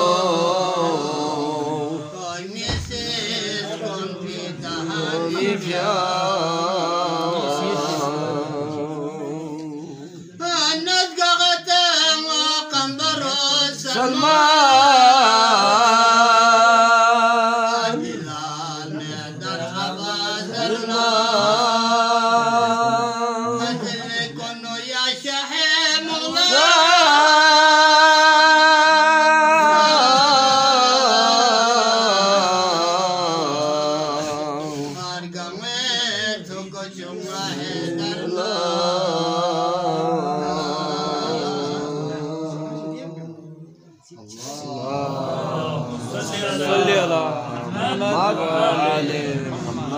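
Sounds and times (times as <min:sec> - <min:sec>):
man singing unaccompanied: 0:00.0 - 0:45.2.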